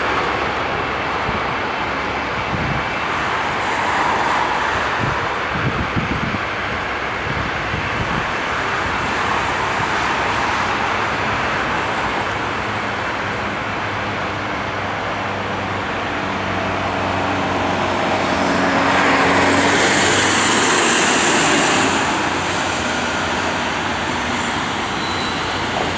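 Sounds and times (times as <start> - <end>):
jet engine roar with whine: 0.0 - 25.9.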